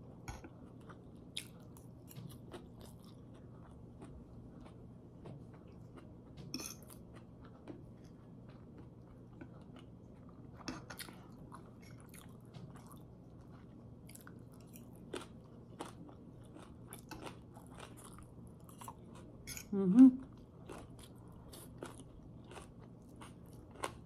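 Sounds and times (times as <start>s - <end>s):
faint steady hum: 0.0s - 24.0s
person chewing noodles: 0.3s - 24.0s.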